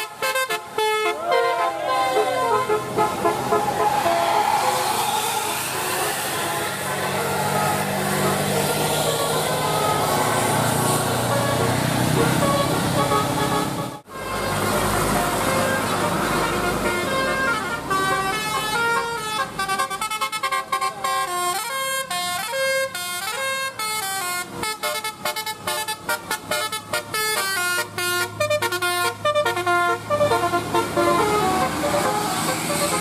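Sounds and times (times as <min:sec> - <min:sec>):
multi-tone bus air horn tune: 0:00.0 - 0:33.0
vehicle noise: 0:00.0 - 0:33.0.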